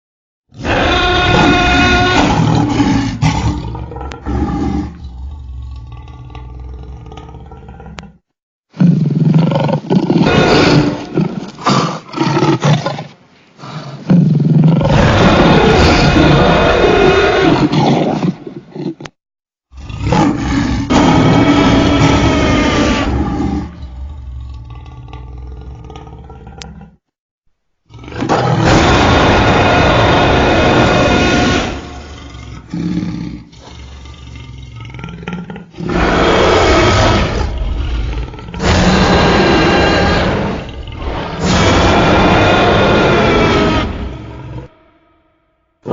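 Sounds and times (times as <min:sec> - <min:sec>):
dinosaur roars and growls: 0:00.5 - 0:12.9, 0:13.6 - 0:19.1, 0:19.7 - 0:27.0, 0:27.9 - 0:45.9.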